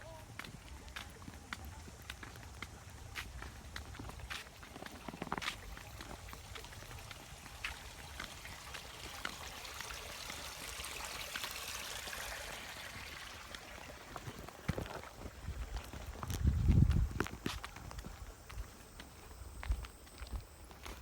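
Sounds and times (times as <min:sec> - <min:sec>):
running water: 0:00.1 - 0:21.0.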